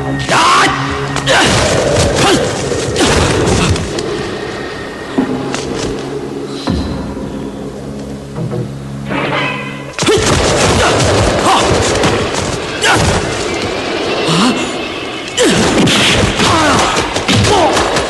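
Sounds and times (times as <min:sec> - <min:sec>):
sharp hits: 0:00.0 - 0:18.0.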